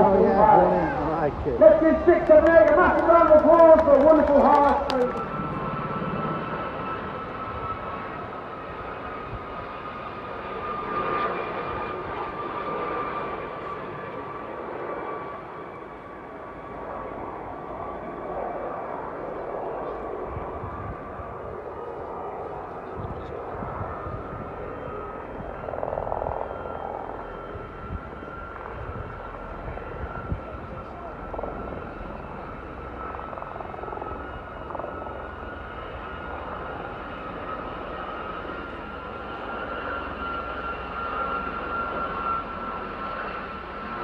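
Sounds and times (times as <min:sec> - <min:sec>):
jet engine noise: 0:00.0 - 0:44.0.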